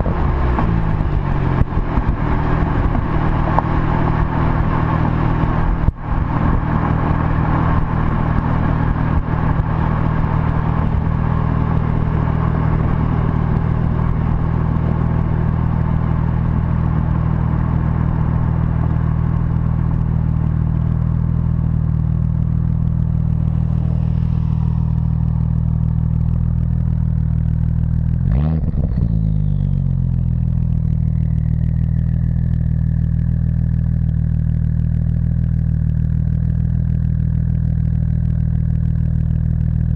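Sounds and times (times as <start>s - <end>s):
car engine deep drone: 0.0s - 39.9s.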